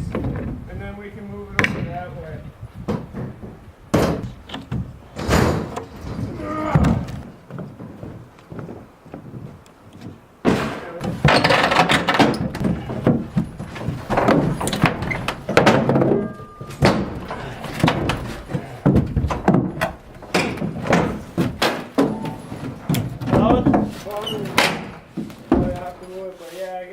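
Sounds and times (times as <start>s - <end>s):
building materials knocking and clattering: 0.0s - 0.8s, 2.8s - 26.1s.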